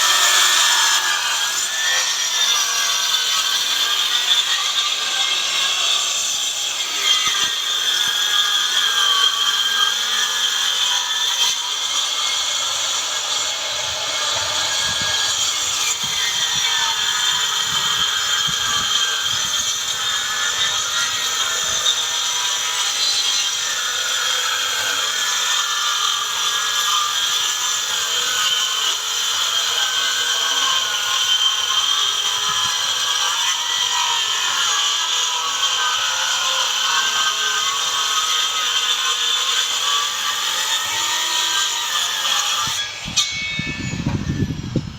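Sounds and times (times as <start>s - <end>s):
circular saw cutting wood: 0.0s - 44.9s.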